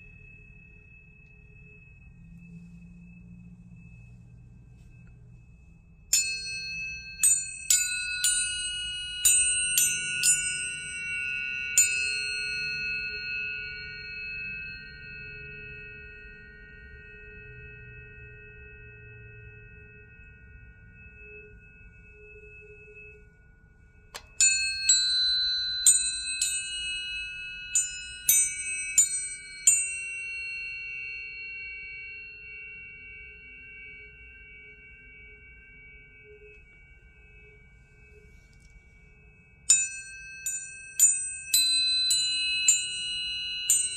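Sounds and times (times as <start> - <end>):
tuning forks ringing: 0.0 - 43.9.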